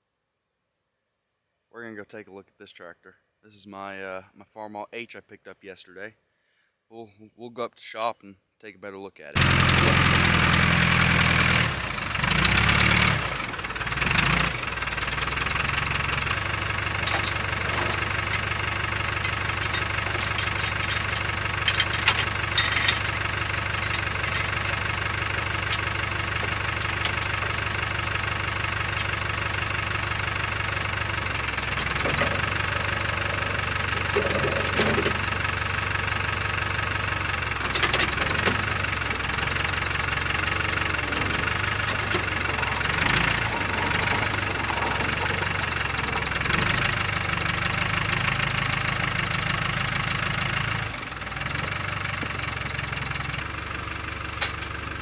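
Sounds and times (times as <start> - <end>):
small clicks and rattles: 9.4 - 50.8, 51.4 - 55.0
tractor engine running: 9.4 - 55.0.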